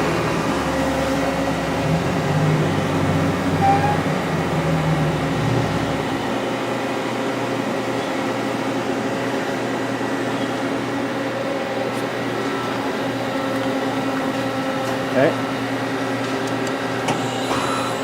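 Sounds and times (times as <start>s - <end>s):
lathe machine hum: 0.0s - 18.0s.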